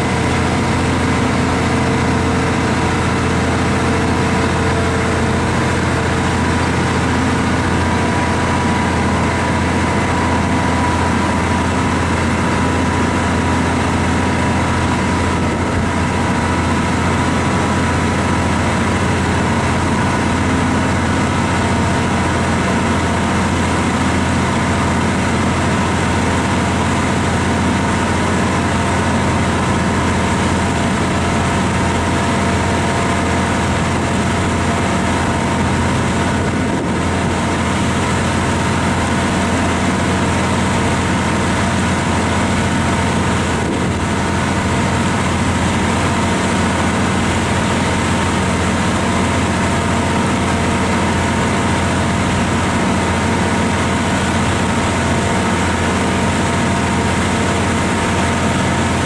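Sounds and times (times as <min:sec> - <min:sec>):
ferry diesel engine droning: 0:00.0 - 0:59.0.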